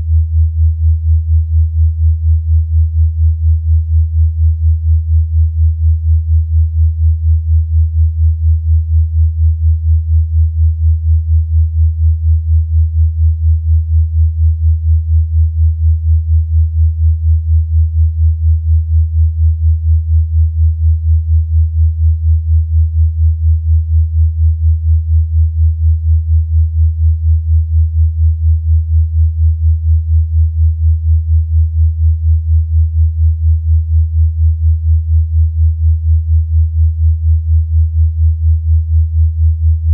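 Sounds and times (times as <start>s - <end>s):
pulsing low sine tone: 0.0s - 39.9s.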